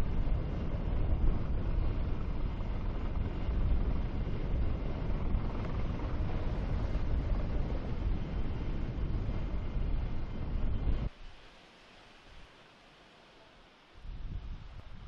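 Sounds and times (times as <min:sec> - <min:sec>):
low running engines and tracks: 0:00.0 - 0:15.0.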